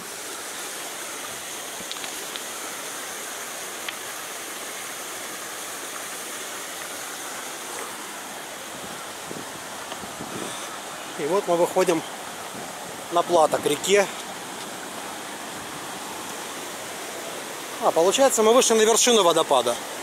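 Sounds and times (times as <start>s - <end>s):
river water rushing over rock: 0.0s - 20.0s.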